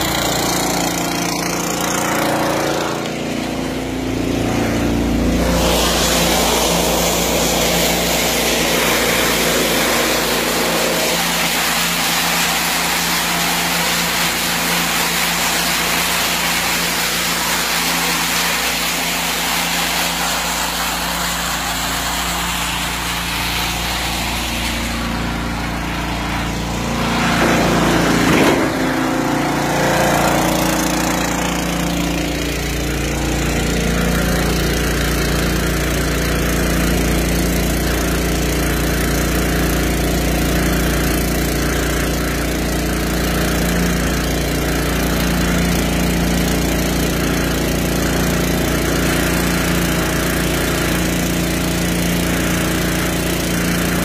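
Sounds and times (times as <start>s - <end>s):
small engine water pump running: 0.0s - 54.0s.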